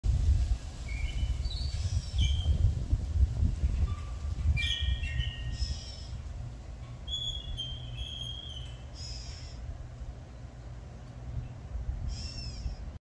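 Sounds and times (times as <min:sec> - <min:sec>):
low steady rumble: 0:00.1 - 0:13.0.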